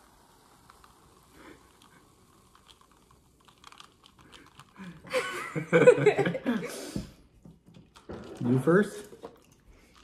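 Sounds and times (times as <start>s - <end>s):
soda fizzing over ice: 0.0s - 7.0s, 8.0s - 10.0s.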